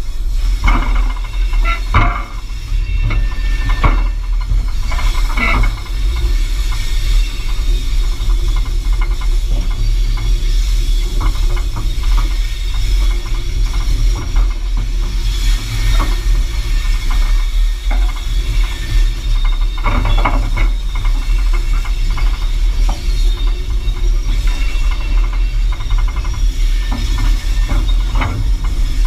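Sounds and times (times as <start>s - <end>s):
locomotive rumble and hiss: 0.0s - 29.0s
wheels clicking and knocking: 0.0s - 29.0s.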